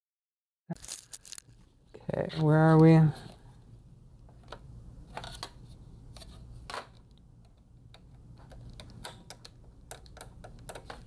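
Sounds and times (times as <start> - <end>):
low steady hum: 0.8 - 11.0.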